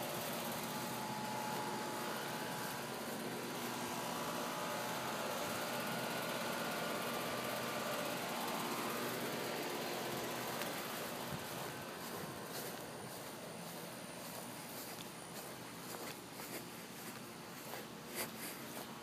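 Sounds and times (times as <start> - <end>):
air conditioner fan hum: 0.0 - 19.0.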